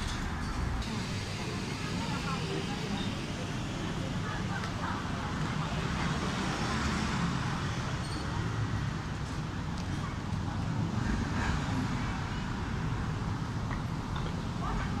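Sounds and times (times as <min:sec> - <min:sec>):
passing vehicles rumble and hiss: 0:00.0 - 0:15.0.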